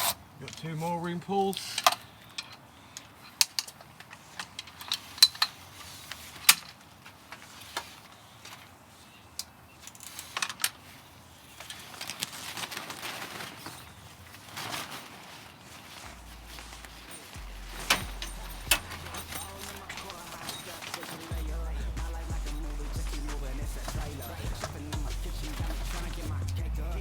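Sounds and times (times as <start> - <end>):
fabric rustling: 0.0 - 26.6.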